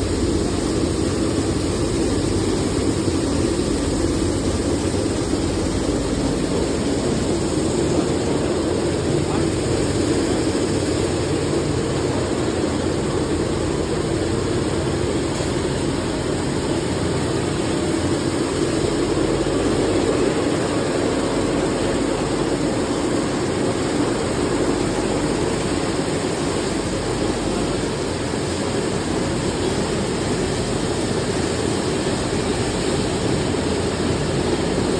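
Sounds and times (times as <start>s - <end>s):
vibrating sieve machinery running: 0.0s - 34.9s.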